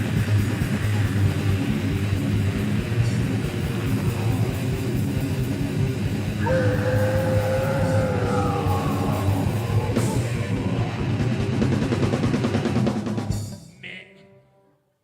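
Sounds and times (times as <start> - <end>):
heavy metal band playing: 0.0 - 13.6.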